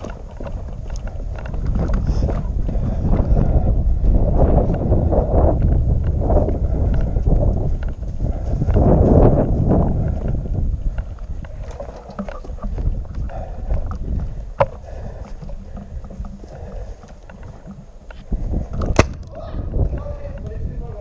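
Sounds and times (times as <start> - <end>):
gear rustling and knocking: 0.0 - 3.4, 4.2 - 19.0
footsteps on snow: 0.0 - 18.7
wind on microphone: 0.0 - 21.0.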